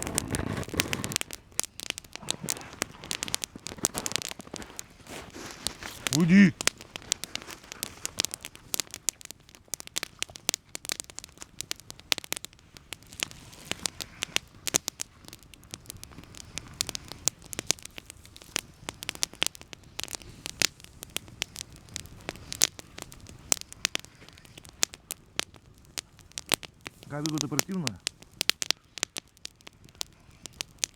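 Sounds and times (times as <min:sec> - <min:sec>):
campfire crackling: 0:00.0 - 0:30.9
pops and snaps of burning wood: 0:00.0 - 0:30.9
soft low rush of flame: 0:00.0 - 0:30.9.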